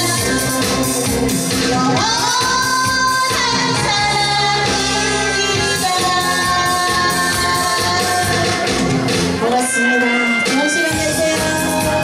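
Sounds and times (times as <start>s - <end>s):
instrumental accompaniment: 0.0s - 12.0s
woman singing into microphone: 0.0s - 12.0s.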